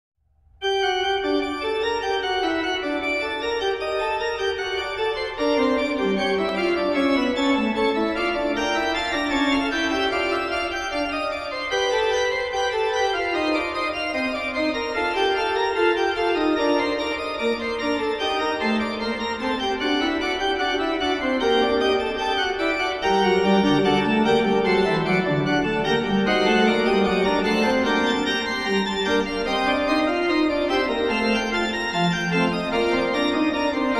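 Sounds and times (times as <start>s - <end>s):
organ music: 0.6s - 33.9s.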